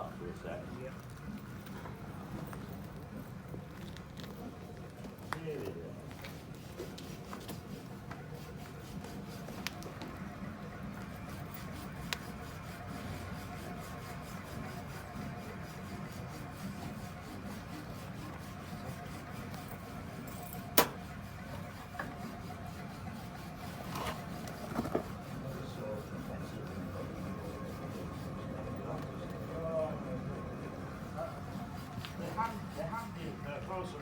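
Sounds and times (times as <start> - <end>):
small engine fan whirring: 0.0 - 34.0.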